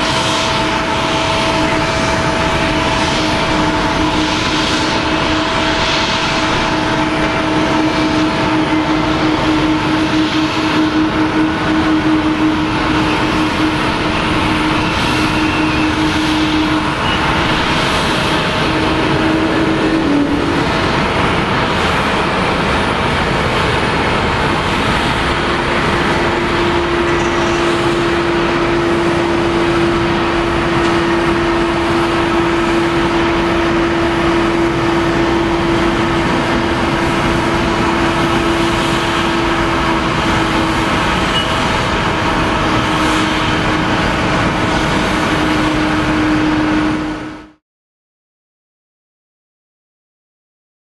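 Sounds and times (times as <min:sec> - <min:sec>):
jet engines rushing and droning: 0:00.0 - 0:47.6.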